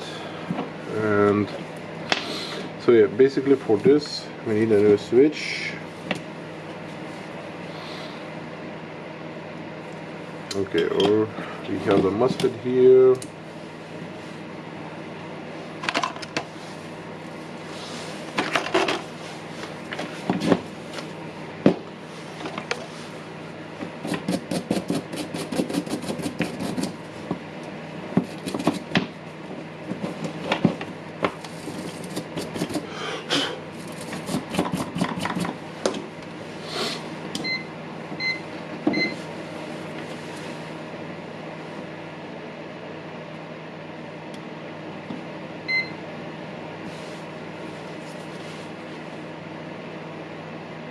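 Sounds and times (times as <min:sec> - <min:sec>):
steady background hum: 0:00.0 - 0:50.9.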